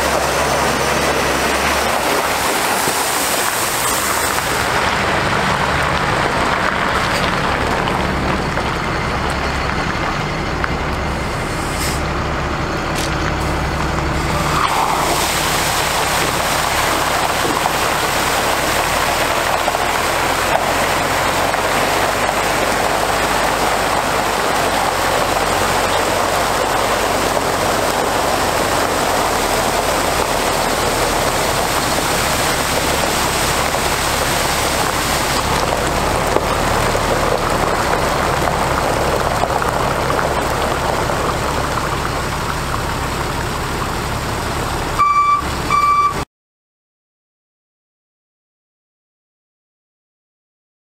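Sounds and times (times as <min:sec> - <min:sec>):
water spraying onto gravel: 0:00.0 - 0:10.0, 0:12.9 - 0:44.9
diesel engine idling: 0:00.0 - 0:46.2.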